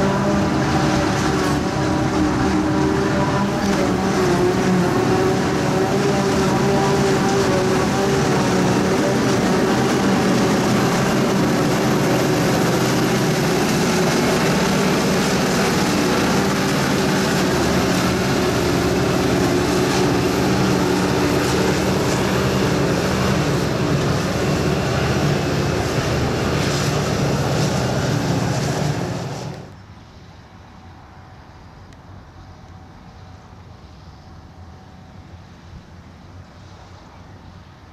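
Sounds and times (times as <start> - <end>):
farm machinery diesel engine drone: 0.0 - 37.9.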